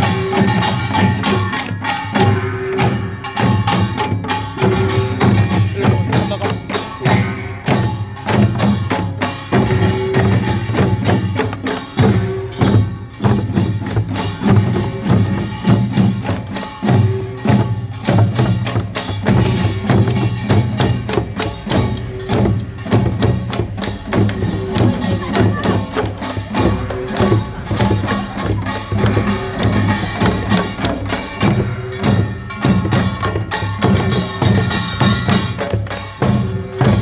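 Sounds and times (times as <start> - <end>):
clanging gongs: 0.0 - 37.0
drums striking: 0.0 - 37.0
percussion band playing fast rhythm: 0.0 - 37.0.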